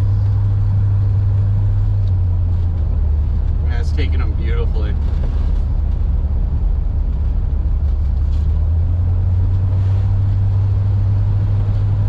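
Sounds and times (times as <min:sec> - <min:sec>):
car engine humming: 0:00.0 - 0:12.0
road noise: 0:00.0 - 0:12.0.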